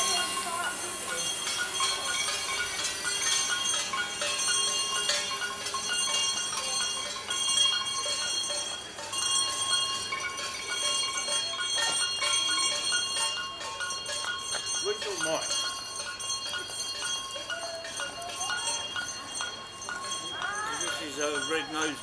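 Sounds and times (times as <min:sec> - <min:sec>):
high ringing tones: 0:00.0 - 0:22.0.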